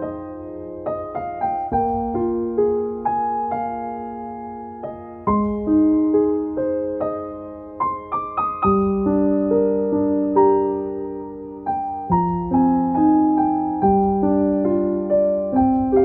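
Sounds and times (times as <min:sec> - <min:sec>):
soft solo piano: 0:00.0 - 0:16.0.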